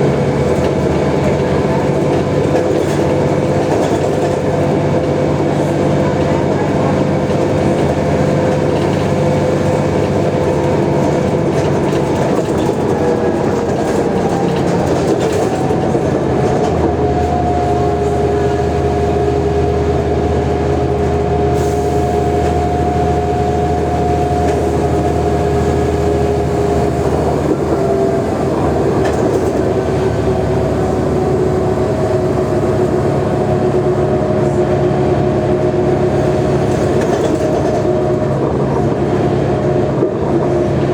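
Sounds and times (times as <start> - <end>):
bus engine drone with whine: 0.0 - 40.9.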